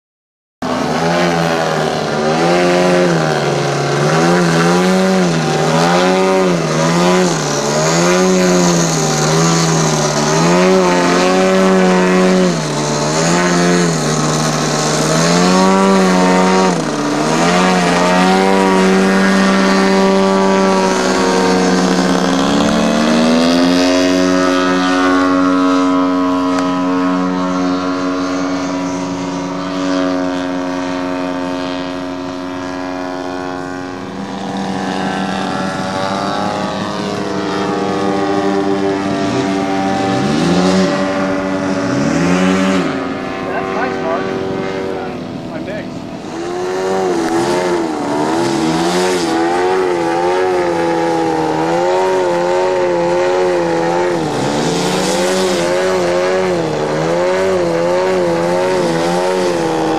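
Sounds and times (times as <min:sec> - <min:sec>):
model airplane engine: 0:00.6 - 0:59.9.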